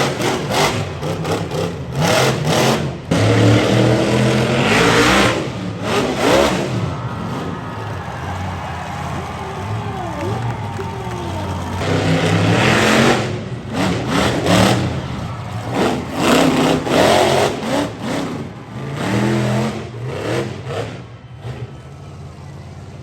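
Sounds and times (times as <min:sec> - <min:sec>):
monster truck engine revving: 0:00.0 - 0:23.0.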